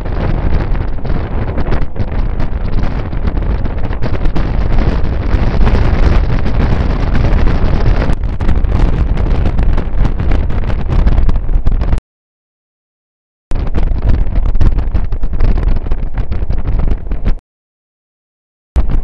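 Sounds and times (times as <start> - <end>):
wind buffeting microphone: 0.0 - 12.0, 13.5 - 17.4, 18.8 - 19.0.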